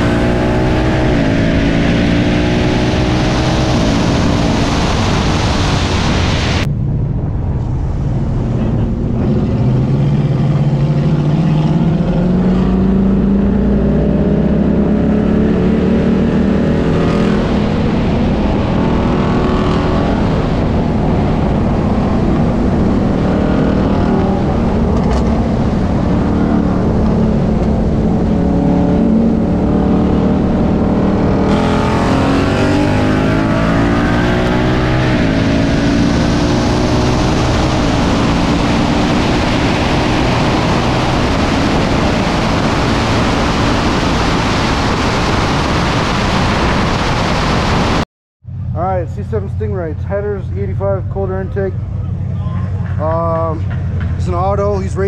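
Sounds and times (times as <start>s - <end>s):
loud wind rush: 0.0s - 49.5s
sports car engine at full throttle: 0.0s - 55.0s.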